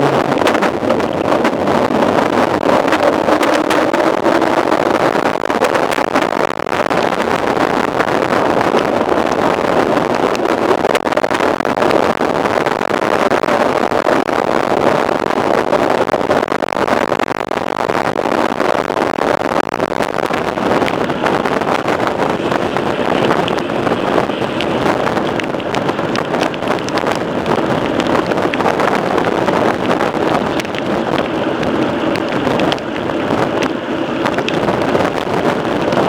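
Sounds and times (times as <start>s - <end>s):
tyre and wind noise rushing: 0.0s - 36.0s.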